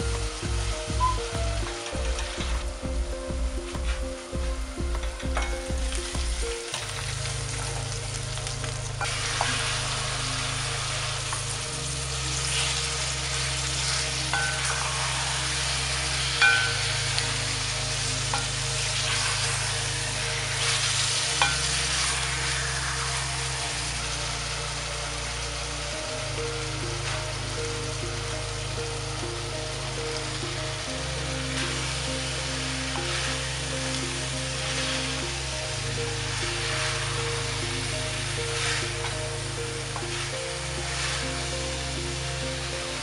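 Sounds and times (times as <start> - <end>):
meat sizzling in hot oil: 0.0 - 43.0.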